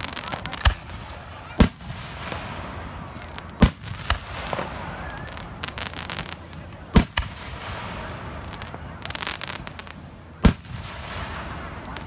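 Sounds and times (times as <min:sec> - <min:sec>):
firework crackling: 0:00.0 - 0:12.0
fireworks bangs: 0:00.0 - 0:12.0.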